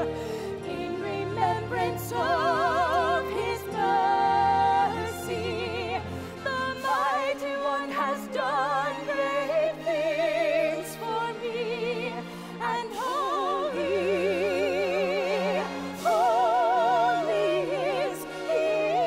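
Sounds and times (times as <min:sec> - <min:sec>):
women singing operatically: 0:00.0 - 0:19.0.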